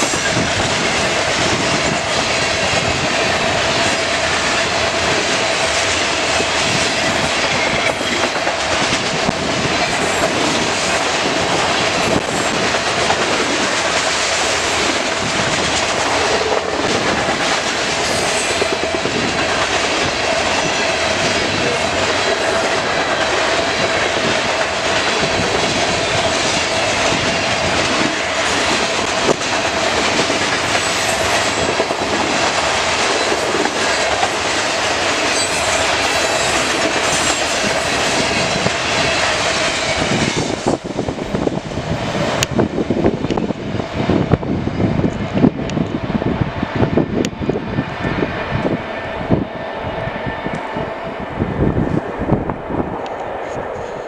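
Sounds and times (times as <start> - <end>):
freight train wheels clattering: 0.0 - 46.1.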